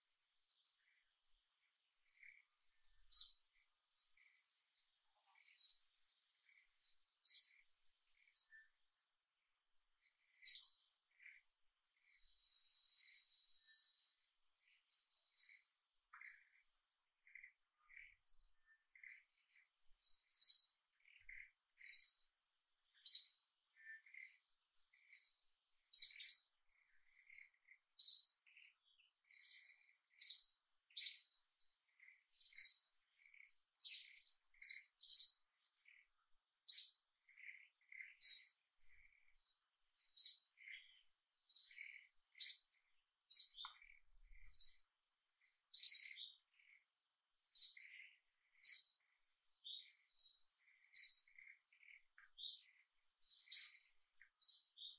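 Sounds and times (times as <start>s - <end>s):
bird chirping: 0.0s - 54.9s.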